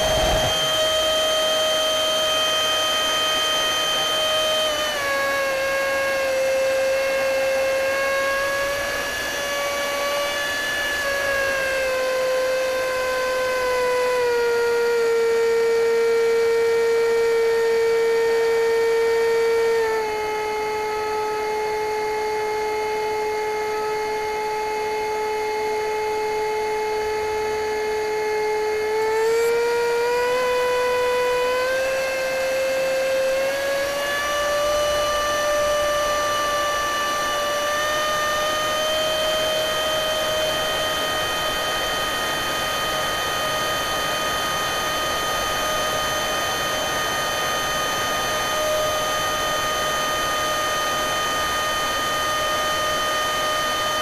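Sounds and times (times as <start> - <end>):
electric ducted fan whining: 0.0 - 54.0.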